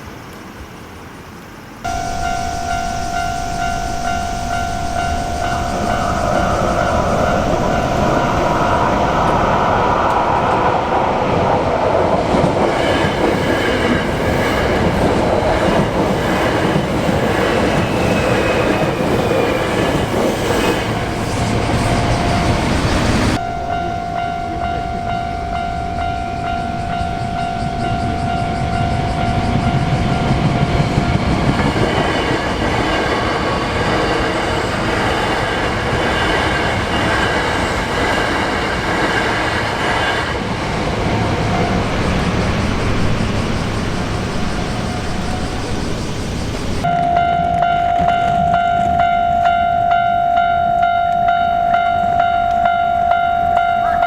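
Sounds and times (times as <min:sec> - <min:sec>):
electric train high whine: 0:00.0 - 0:54.0.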